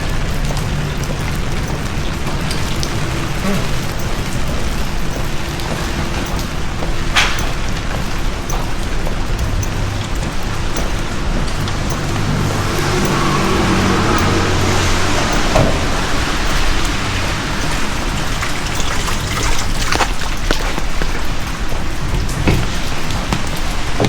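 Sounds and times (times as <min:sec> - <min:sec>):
heavy rain on street: 0:00.0 - 0:24.0
vehicle engine humming: 0:00.0 - 0:24.0.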